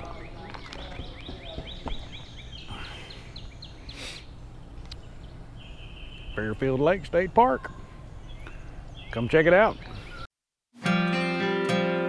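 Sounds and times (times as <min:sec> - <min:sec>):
songbird chirping: 0:00.0 - 0:10.3.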